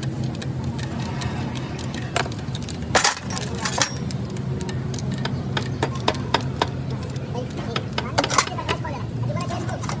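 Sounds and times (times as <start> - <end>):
metal clinking and tapping: 0.0 - 10.0
steady low hum: 0.0 - 10.0.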